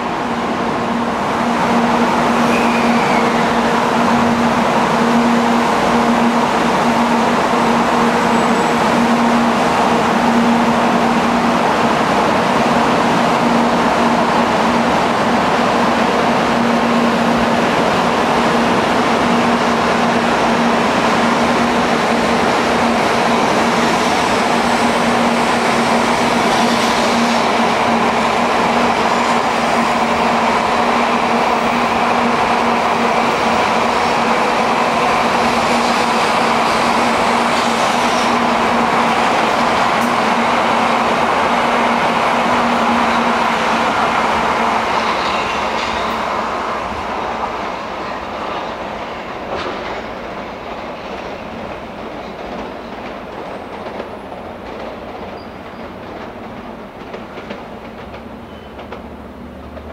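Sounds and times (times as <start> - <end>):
trains rolling along tracks: 0.0 - 59.9.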